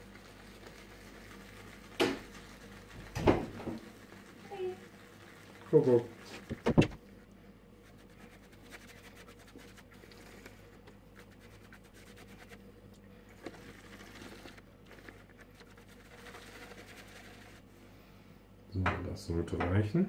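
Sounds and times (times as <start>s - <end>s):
shaving brush scratchy rustle: 0.0s - 17.7s.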